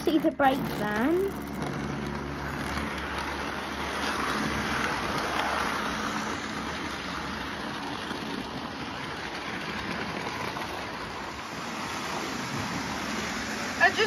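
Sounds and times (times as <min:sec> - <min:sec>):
model train motors whirring: 0:00.0 - 0:14.0
wheels rattling on track: 0:00.0 - 0:14.0.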